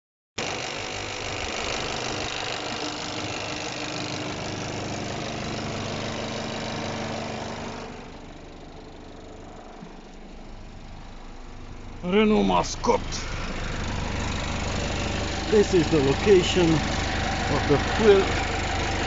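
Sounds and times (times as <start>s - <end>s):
diesel engine idling: 0.7s - 19.0s.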